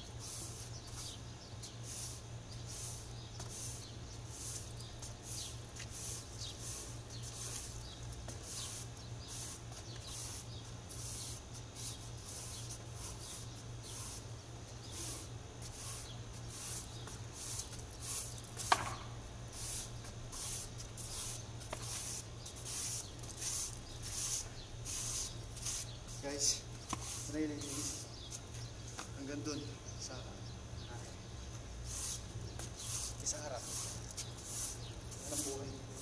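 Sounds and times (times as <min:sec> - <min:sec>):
steady low hum: 0:00.0 - 0:36.0
broom sweeping a tiled floor: 0:00.1 - 0:29.1, 0:31.5 - 0:36.0.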